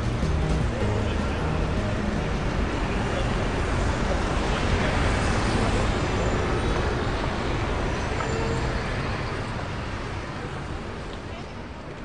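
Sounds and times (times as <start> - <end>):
city traffic hum: 0.0 - 12.0.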